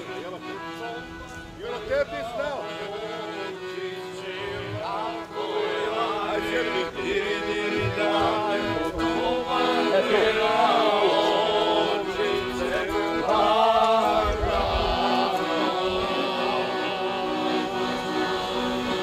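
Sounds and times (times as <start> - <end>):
accordion chords: 0.0 - 19.0
men singing folk song: 0.0 - 19.0.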